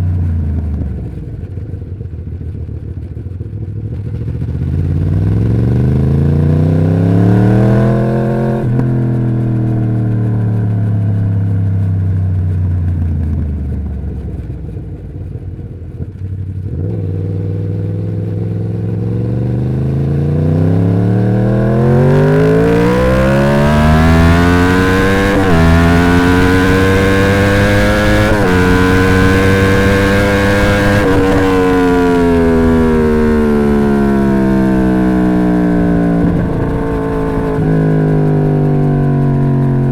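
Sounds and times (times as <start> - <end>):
motorcycle engine revving: 3.8 - 39.9.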